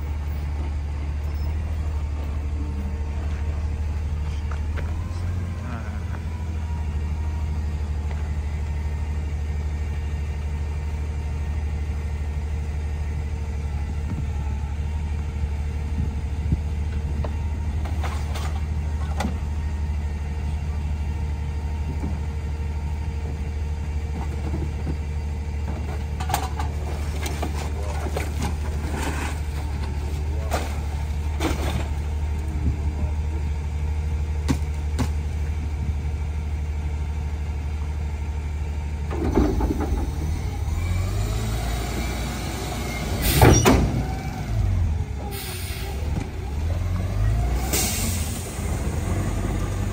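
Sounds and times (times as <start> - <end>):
truck engine idling: 0.0 - 49.9.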